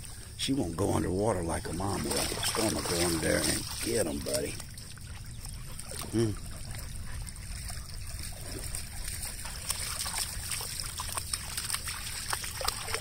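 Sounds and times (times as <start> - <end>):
low steady rumble: 0.0 - 13.0
dog splashing in water: 1.4 - 13.0.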